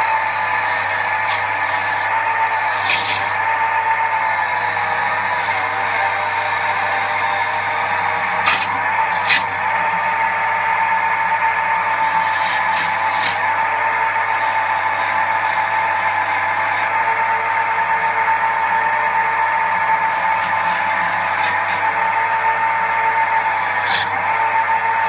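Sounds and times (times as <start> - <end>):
tool cutting spinning wood: 0.0 - 25.0
wood lathe running: 0.0 - 25.0.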